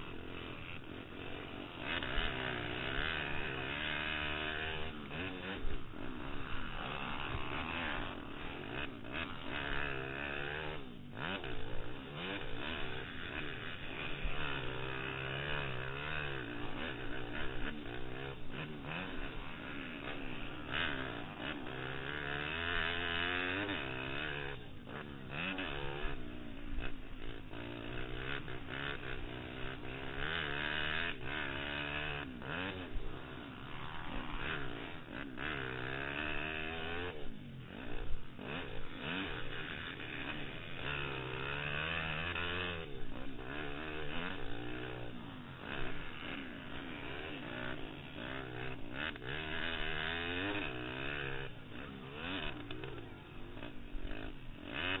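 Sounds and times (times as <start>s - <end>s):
pit bike engine revving: 0.0s - 55.0s.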